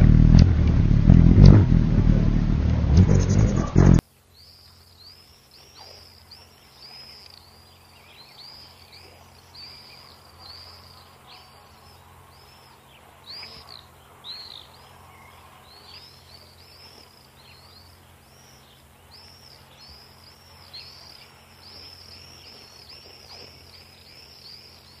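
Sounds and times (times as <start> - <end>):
swifts calling: 3.0 - 25.0.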